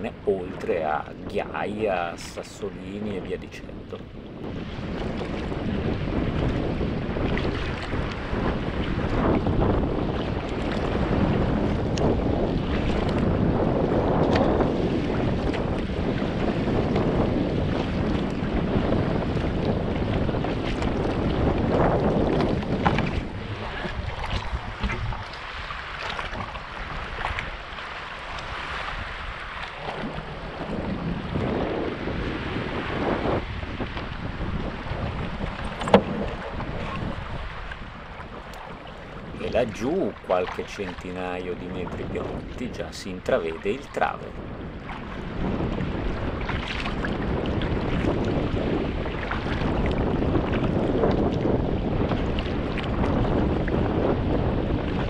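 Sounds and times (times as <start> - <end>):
wind buffeting microphone: 0.0 - 55.0
paddle splashes: 3.8 - 55.0
water sloshing and splashing: 4.0 - 13.3, 14.2 - 32.8, 33.4 - 42.6, 43.3 - 51.4, 52.0 - 53.0.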